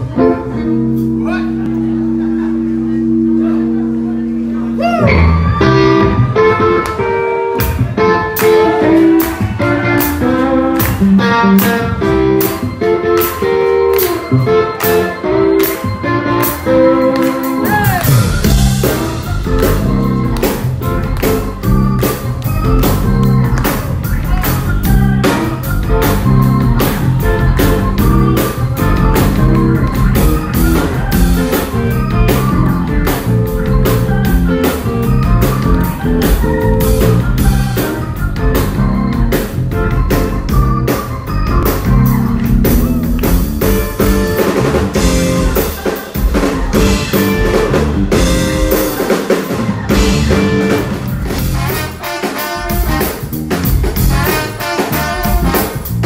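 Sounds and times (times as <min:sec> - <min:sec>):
electric guitar: 0:00.0 - 0:56.0
drum kit: 0:04.8 - 0:56.0.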